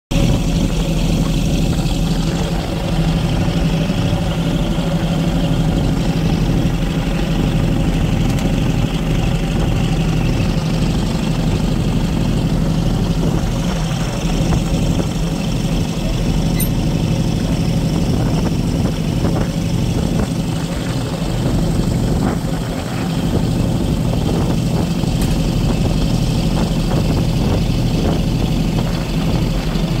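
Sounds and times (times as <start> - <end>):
boat engine humming: 0.1 - 30.0
rushing wake water: 0.1 - 30.0.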